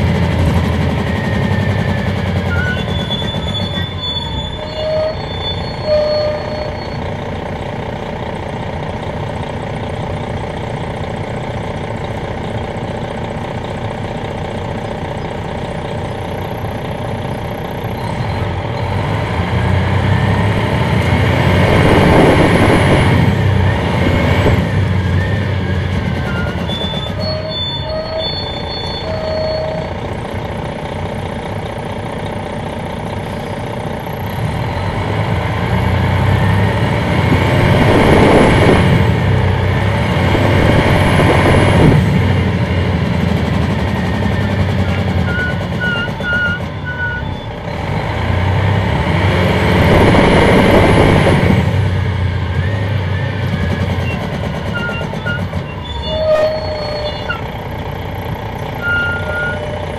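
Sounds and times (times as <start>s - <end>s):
diesel bus engine rumble: 0.0s - 59.9s.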